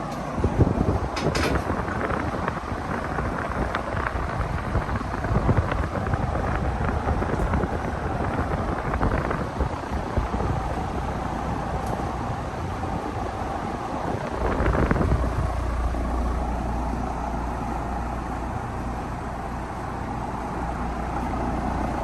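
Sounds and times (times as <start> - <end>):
ceiling fan air rushing: 0.0 - 22.0.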